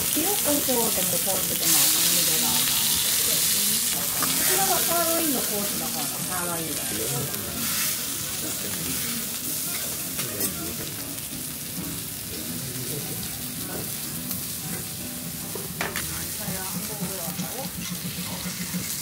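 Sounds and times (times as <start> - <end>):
food sizzling in hot fat: 0.0 - 19.0.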